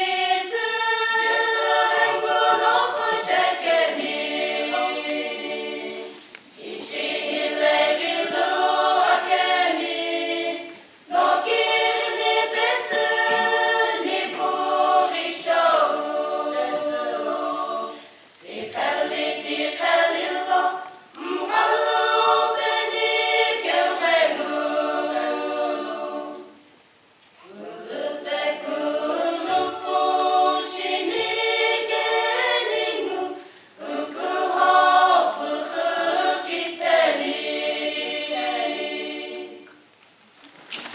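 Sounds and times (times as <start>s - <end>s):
women's choir singing a cappella: 0.0s - 26.7s, 27.4s - 39.9s.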